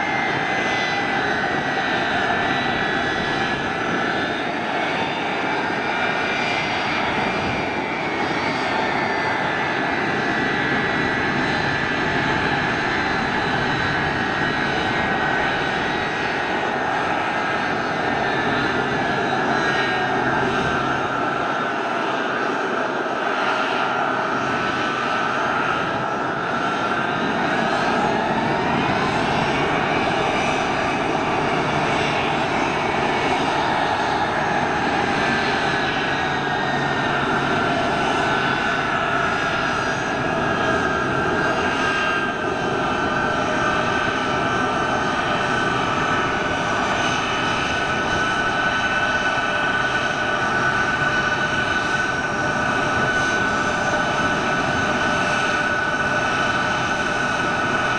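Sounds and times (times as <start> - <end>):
jet engines roaring with whine: 0.0 - 57.9.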